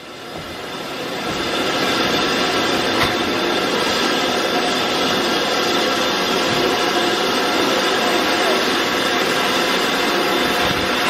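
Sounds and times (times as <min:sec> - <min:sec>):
steam locomotive rush of steam: 0:00.0 - 0:11.0.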